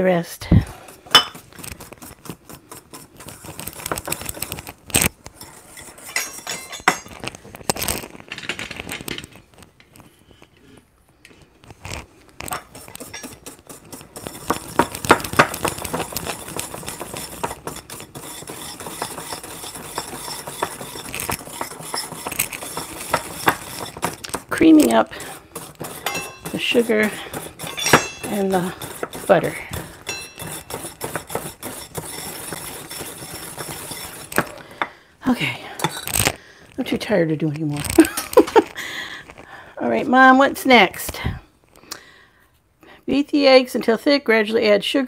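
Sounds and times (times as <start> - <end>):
whisk clicking and scraping bowl: 0.5 - 8.1, 11.2 - 41.1.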